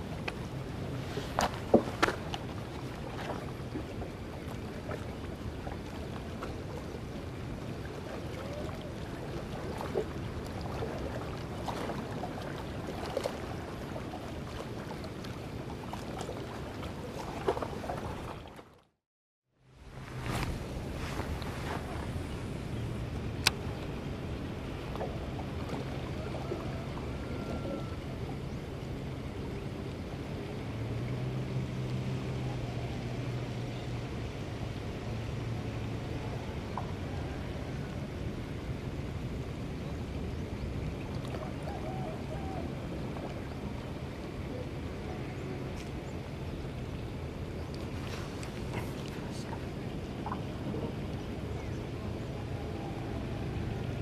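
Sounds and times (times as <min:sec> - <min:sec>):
boat engine humming: 0:00.0 - 0:54.0
low rumble of water and air: 0:00.0 - 0:54.0.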